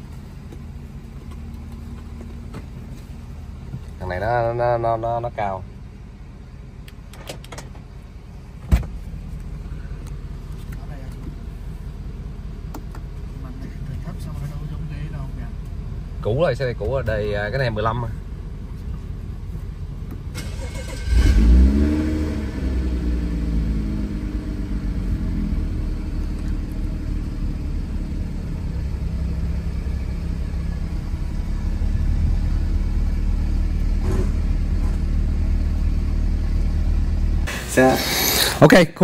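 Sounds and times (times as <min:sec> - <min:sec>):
car engine starting and idling: 0:00.0 - 0:39.0.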